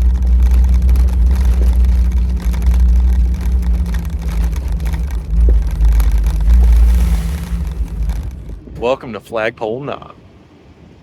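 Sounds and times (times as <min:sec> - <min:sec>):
knocks and rattles: 0:00.0 - 0:09.0
engine and drivetrain rumble: 0:00.0 - 0:11.0.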